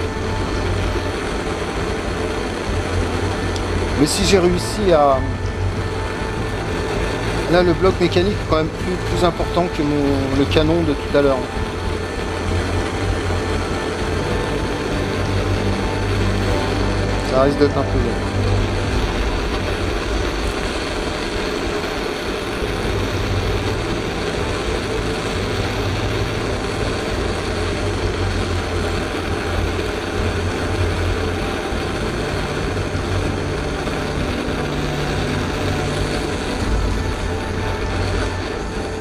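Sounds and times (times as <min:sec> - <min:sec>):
gas torch flame burning: 0:00.0 - 0:39.0.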